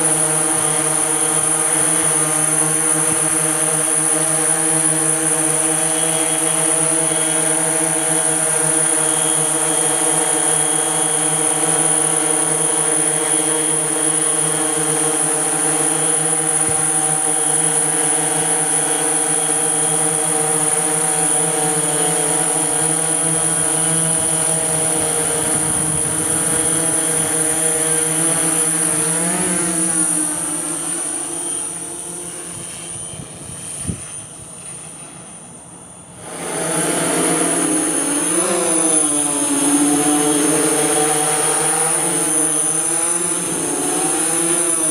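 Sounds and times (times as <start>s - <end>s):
drone propeller buzz: 0.0s - 44.9s.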